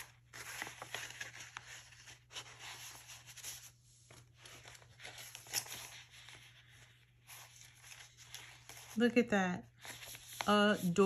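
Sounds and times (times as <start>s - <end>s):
page turning: 0.0s - 9.0s, 9.6s - 11.0s
paper rustling and sliding: 0.0s - 9.0s, 9.6s - 11.0s.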